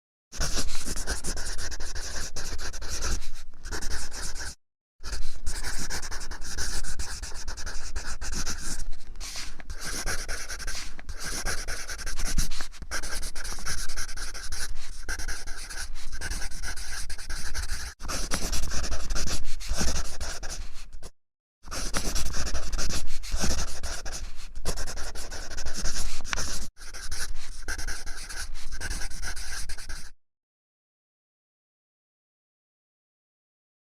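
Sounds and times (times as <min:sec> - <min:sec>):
pencil scratching on paper: 0:00.4 - 0:21.1, 0:21.7 - 0:30.2.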